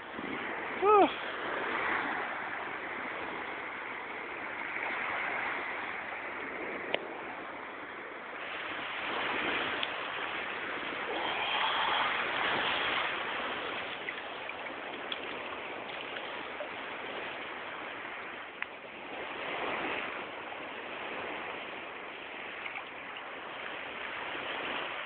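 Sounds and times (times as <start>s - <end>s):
sea water lapping in surf: 0.0s - 25.0s.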